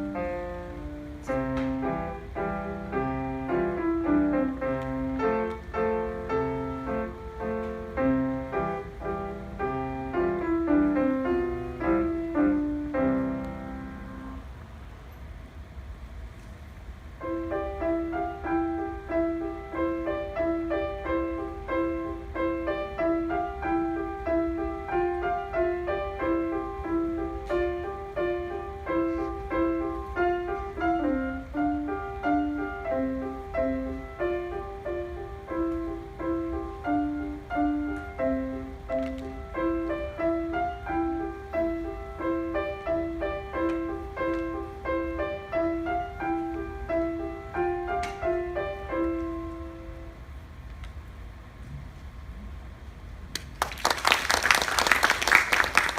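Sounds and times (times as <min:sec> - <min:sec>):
piano piece: 0:00.0 - 0:55.9.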